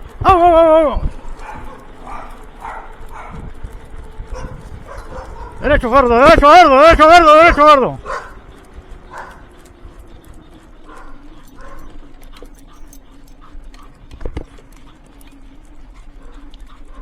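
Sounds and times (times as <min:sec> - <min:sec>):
dogs' footfalls on pavement: 0:00.0 - 0:17.0
sled wheels rolling hum: 0:00.0 - 0:17.0.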